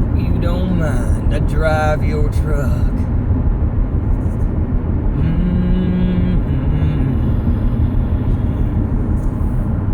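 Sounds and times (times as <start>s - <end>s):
vehicle rumbling: 0.0s - 9.9s.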